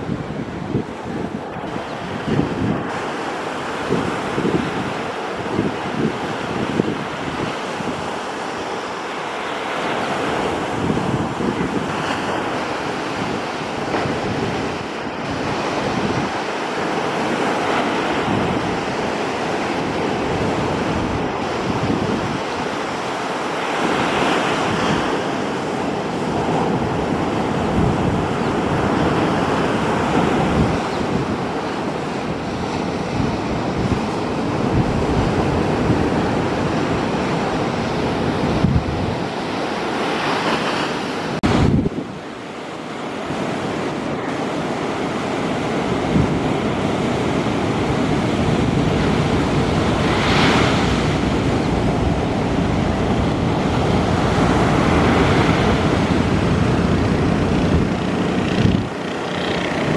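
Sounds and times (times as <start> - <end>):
surf breaking on beach: 0.0 - 59.9
wind buffeting microphone: 0.0 - 59.9.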